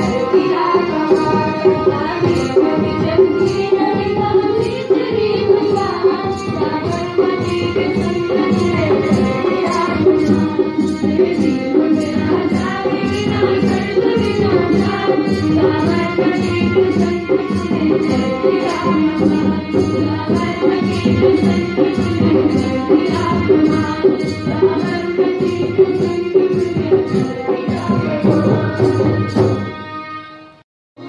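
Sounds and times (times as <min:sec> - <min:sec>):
drums beating steadily: 0:00.0 - 0:29.9
girls singing over loudspeaker: 0:00.0 - 0:30.2.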